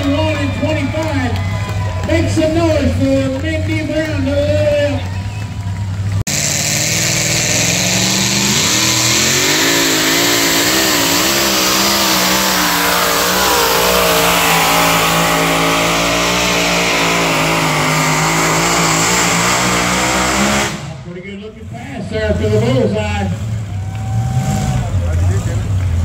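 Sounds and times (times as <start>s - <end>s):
truck engine at high revs: 0.0s - 26.0s.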